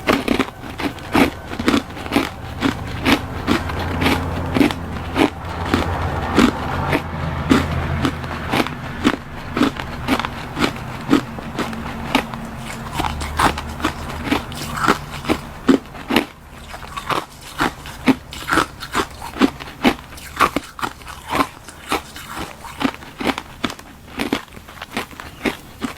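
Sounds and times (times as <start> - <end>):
ice crunching being chewed: 0.0 - 25.9.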